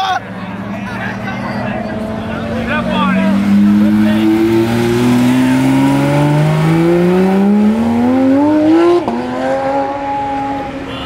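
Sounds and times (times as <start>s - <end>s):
sports car engine accelerating: 0.2s - 10.9s.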